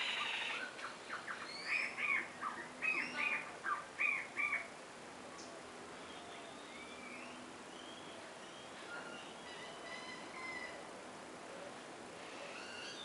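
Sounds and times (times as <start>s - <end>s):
bird calling: 0.0s - 4.7s, 5.4s - 10.8s, 12.2s - 13.0s.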